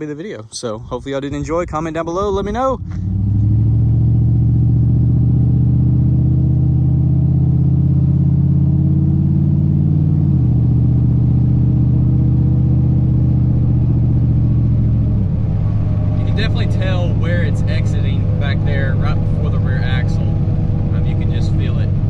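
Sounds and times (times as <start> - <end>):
pickup truck exhaust drone: 2.0 - 22.0.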